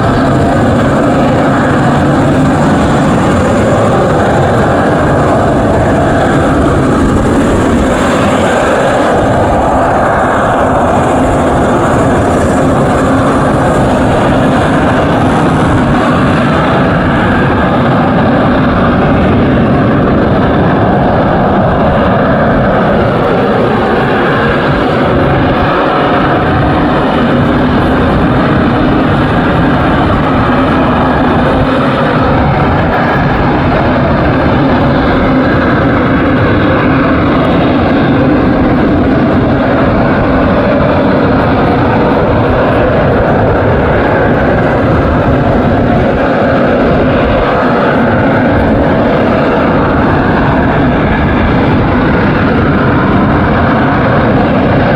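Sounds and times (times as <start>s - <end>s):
loud jet engine: 0.0s - 54.9s.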